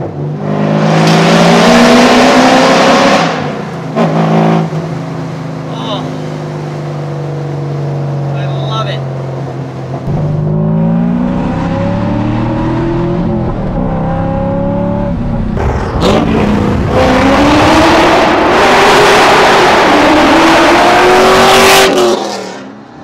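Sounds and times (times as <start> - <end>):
sports car engine accelerating hard: 0.0 - 8.4, 9.0 - 23.0.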